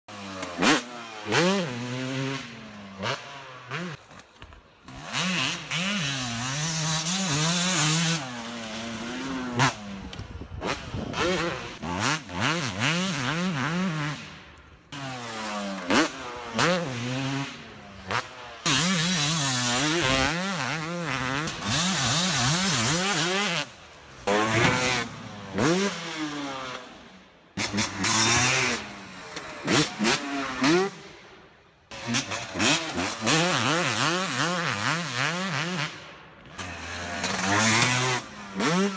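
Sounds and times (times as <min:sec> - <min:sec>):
motocross bike engine revving: 0:00.1 - 0:04.1, 0:04.8 - 0:38.9.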